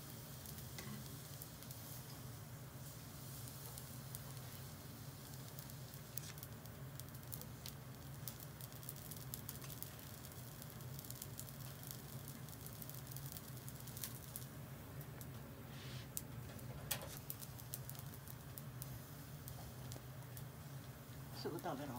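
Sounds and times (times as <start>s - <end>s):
food sizzling on a grill: 0.0s - 21.9s
small pops and crackles: 0.0s - 21.9s
steady low hum: 0.0s - 21.9s.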